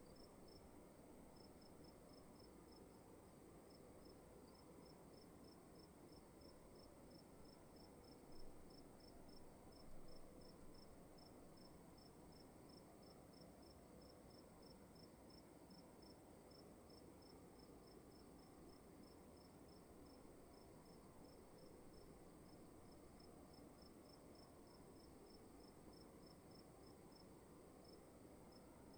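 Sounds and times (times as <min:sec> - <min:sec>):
cricket chirping: 0:00.0 - 0:00.7, 0:01.4 - 0:28.9.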